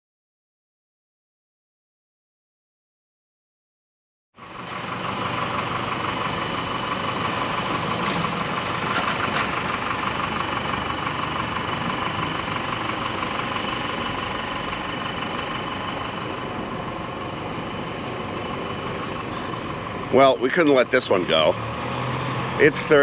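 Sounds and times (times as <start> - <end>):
traffic noise: 4.4 - 23.0
vehicle engine idling: 4.4 - 23.0.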